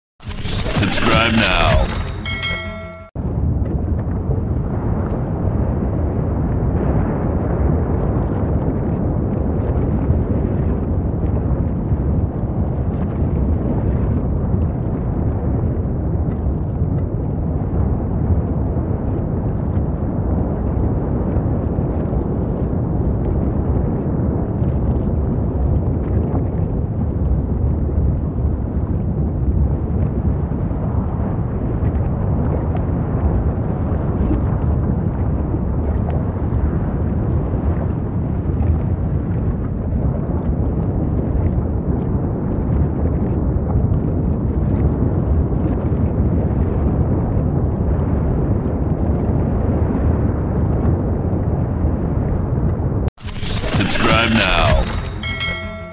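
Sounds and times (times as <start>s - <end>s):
deep volcanic rumble: 3.2s - 53.2s.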